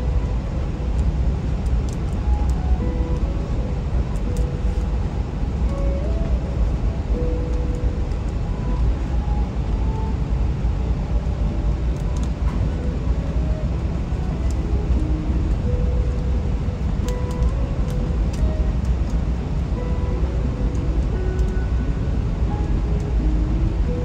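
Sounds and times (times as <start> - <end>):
airliner cabin rumble: 0.0 - 24.0
soft music of held notes: 0.0 - 24.0.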